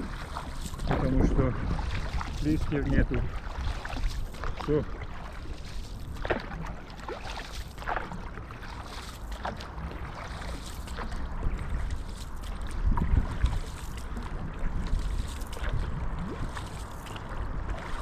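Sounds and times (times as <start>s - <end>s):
paddle splashing in water: 0.0s - 18.0s
wind rumbling on microphone: 0.0s - 18.0s.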